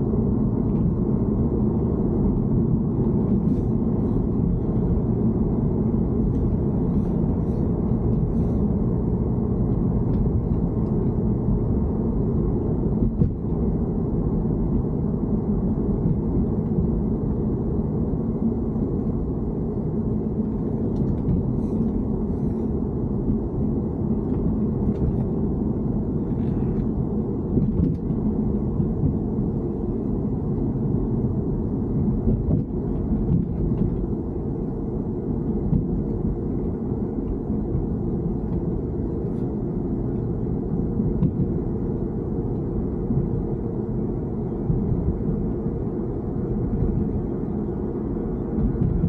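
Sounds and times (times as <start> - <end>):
car engine low rumble: 0.0 - 49.0.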